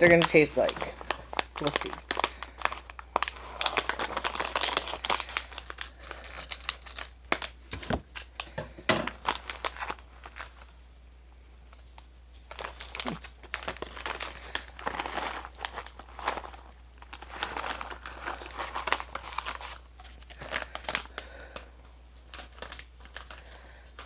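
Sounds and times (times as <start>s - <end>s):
plastic snack packet crinkling: 0.0s - 10.8s, 11.7s - 24.0s.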